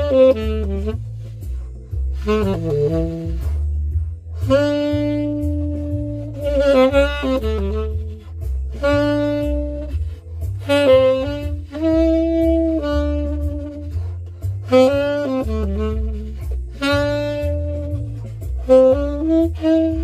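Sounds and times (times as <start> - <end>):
backing track bass line: 0.0 - 20.0
tenor saxophone improvising: 0.0 - 20.0.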